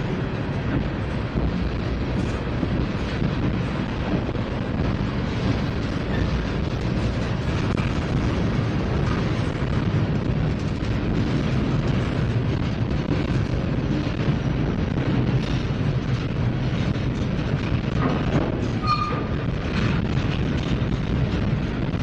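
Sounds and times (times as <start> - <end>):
steel wheels on rails: 0.0 - 22.0.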